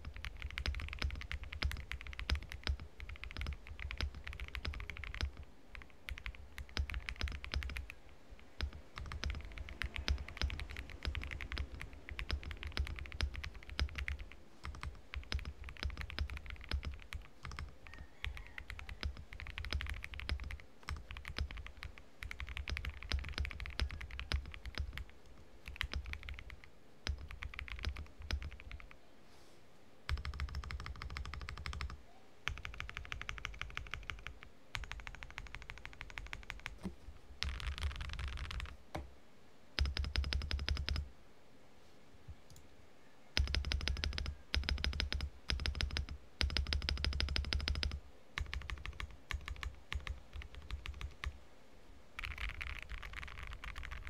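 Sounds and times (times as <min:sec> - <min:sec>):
mechanical keyboard typing: 0:00.0 - 0:29.0, 0:30.1 - 0:38.8, 0:39.8 - 0:41.0, 0:43.4 - 0:51.4, 0:52.2 - 0:54.0.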